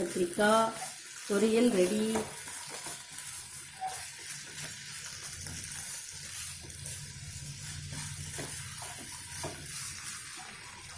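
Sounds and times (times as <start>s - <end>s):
food sizzling in a pan: 0.0s - 10.9s
spatula scraping a pan: 0.0s - 10.9s.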